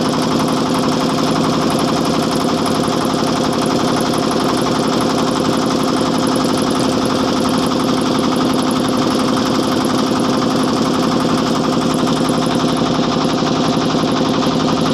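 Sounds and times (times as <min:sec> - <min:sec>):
motorboat engine running: 0:00.0 - 0:14.9.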